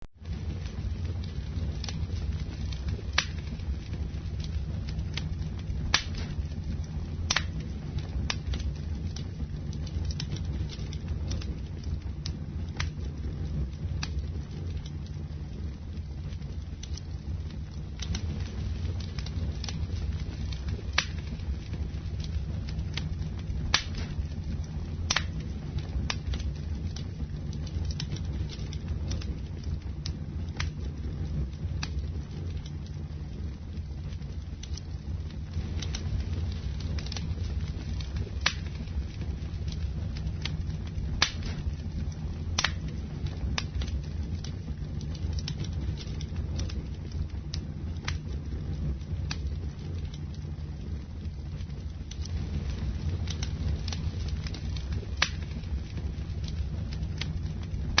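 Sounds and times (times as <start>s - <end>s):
low rumble of flames: 0.0s - 58.0s
wood crackling: 0.0s - 58.0s
sharp pops of fire: 0.1s - 58.0s.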